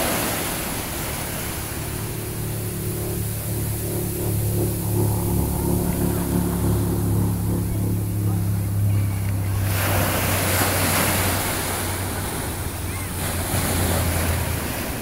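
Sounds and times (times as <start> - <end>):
low droning tone: 0.0 - 15.0
ocean surf washing in: 0.0 - 15.0
wind on microphone: 0.0 - 15.0.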